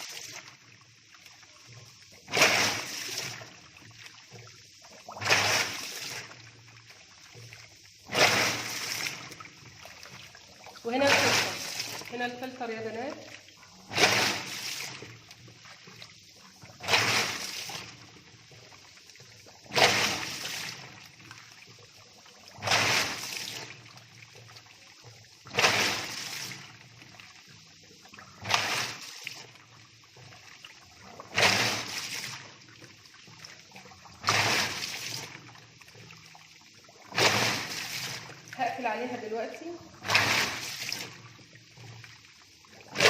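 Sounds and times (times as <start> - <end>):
washing machine water sloshing: 0.0 - 43.0.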